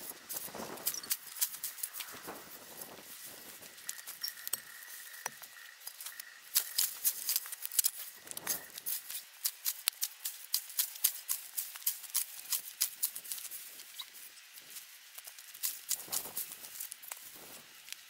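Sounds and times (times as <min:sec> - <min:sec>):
weed cutter scraping dry grass: 0:00.0 - 0:18.0.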